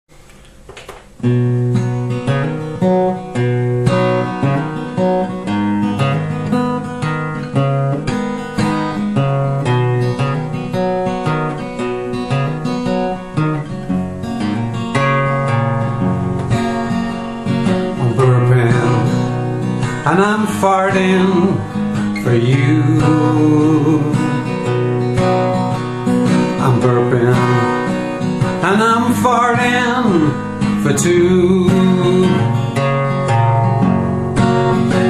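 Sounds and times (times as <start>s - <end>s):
strummed acoustic guitar: 0.6s - 35.0s.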